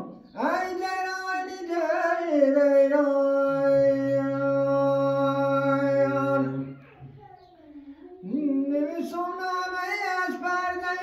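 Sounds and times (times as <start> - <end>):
man singing unaccompanied: 0.0 - 6.8, 8.2 - 11.0.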